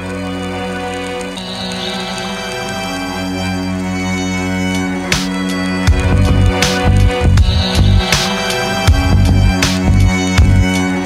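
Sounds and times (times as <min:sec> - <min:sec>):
rock band playing held chords: 0:00.0 - 0:11.0.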